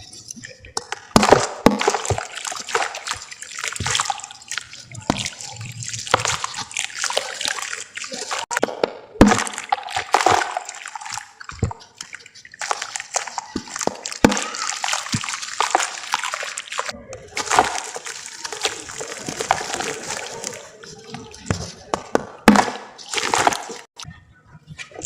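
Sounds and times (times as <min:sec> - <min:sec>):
water sloshing and splashing: 0:00.0 - 0:24.1.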